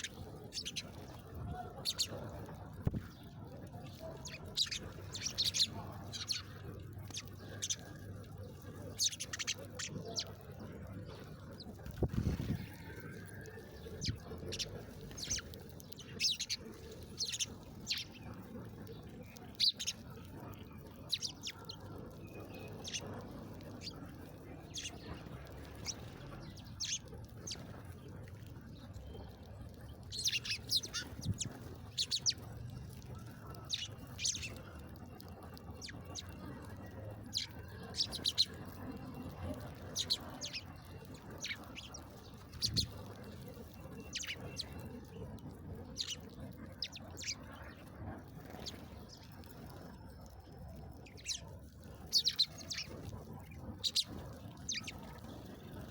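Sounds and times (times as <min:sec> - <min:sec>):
small songbirds chirping: 0:00.0 - 0:55.9.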